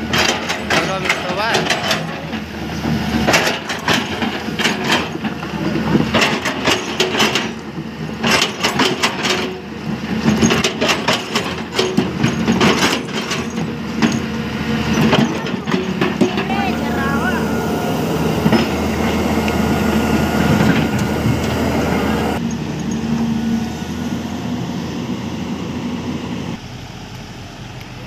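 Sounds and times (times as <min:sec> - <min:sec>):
diesel engine humming: 0:00.0 - 0:28.0.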